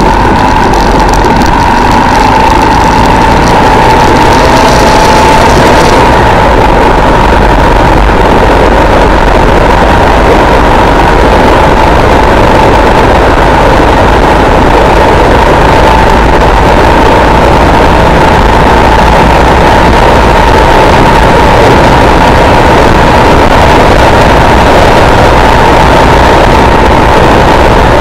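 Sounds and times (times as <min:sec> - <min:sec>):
motorcycle engine running: 0:00.0 - 0:28.0
steady engine whine: 0:00.0 - 0:28.0.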